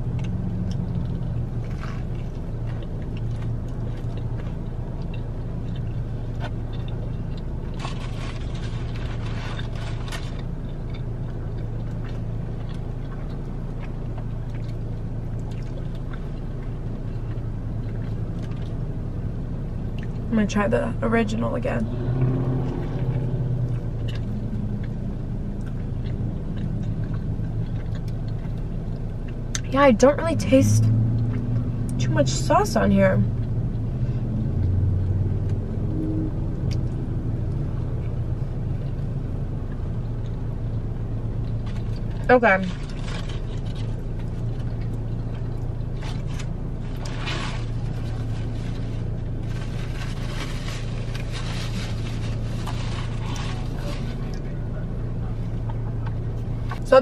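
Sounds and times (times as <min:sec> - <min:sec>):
chewing crispy sandwich: 0:00.0 - 0:20.3, 0:21.9 - 0:29.7, 0:30.8 - 0:32.0, 0:33.3 - 0:56.9
car engine idling: 0:00.0 - 0:57.0.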